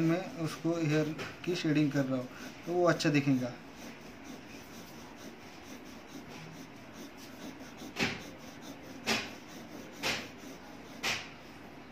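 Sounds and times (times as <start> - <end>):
pencil scratching on paper: 0.0 - 11.9.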